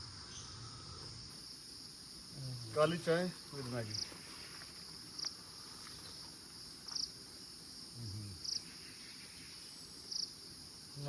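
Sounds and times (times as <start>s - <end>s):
pulsed insect chirp: 0.0s - 11.0s.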